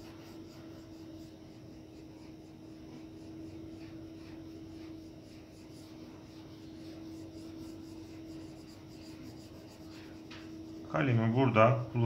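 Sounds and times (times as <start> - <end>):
pencil scratching on paper: 0.0 - 10.9
steady low hum: 0.0 - 12.0.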